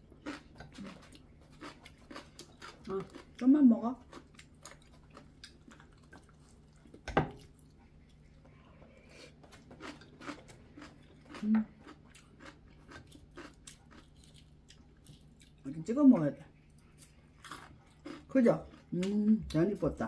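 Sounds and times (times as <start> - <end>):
chewing: 0.2 - 3.4, 4.0 - 15.7, 16.6 - 19.2.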